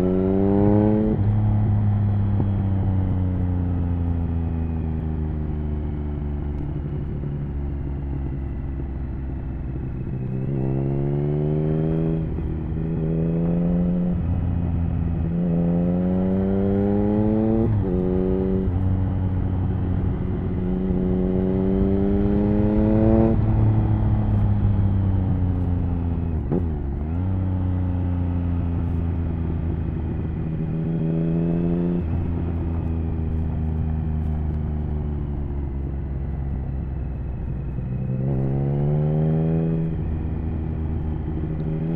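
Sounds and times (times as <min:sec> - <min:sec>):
motorcycle engine revving: 0:00.0 - 0:04.3, 0:06.6 - 0:41.9.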